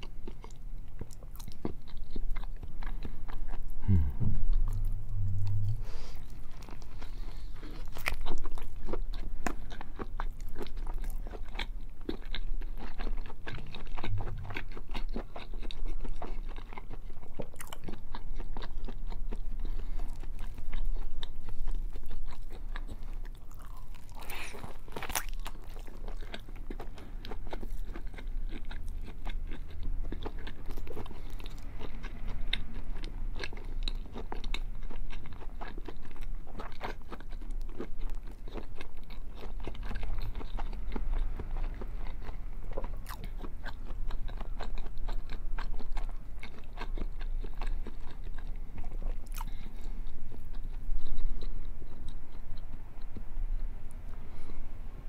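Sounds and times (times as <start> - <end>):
chewing with mouth clicks: 0.0 - 53.3.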